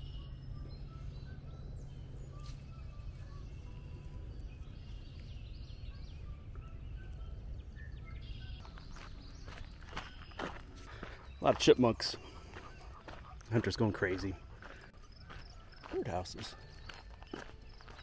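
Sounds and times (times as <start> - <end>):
small birds chirping and trilling: 0.0 - 18.0.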